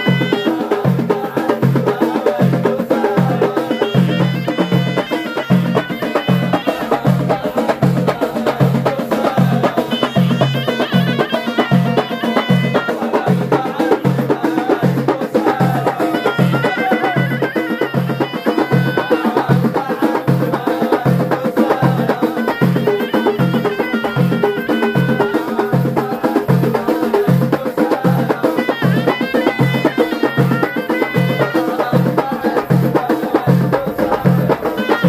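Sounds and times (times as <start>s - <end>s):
hand frame drums beating: 0.0s - 35.0s
reedy shawm melody: 0.0s - 35.0s.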